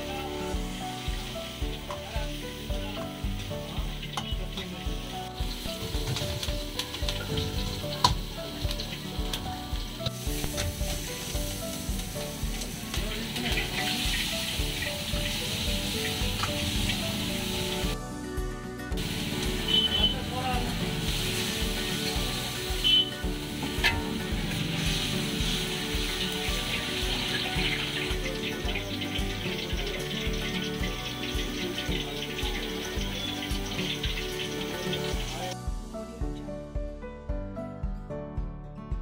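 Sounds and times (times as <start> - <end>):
vegetables sizzling in wok: 0.0 - 18.0, 18.9 - 35.6
background music with steady beat: 0.0 - 39.0.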